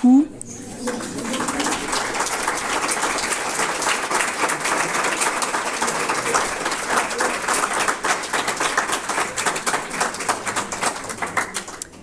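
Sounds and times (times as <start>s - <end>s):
audience applauding: 0.5s - 12.0s.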